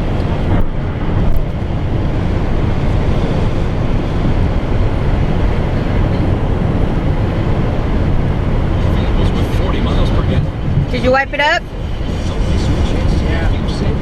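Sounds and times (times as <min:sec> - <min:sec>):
road and wind noise inside car: 0:00.0 - 0:14.0.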